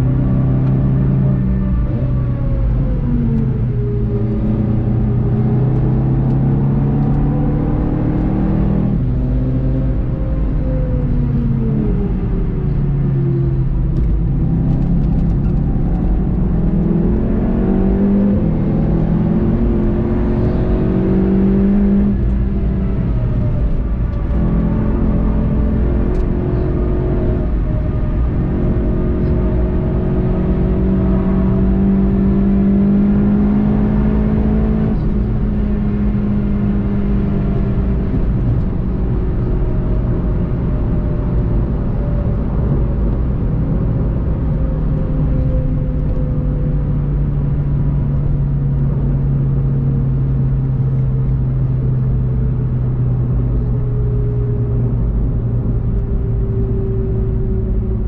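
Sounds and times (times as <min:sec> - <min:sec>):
car engine running at speed: 0:00.0 - 0:58.0
road and wind noise: 0:00.0 - 0:58.0.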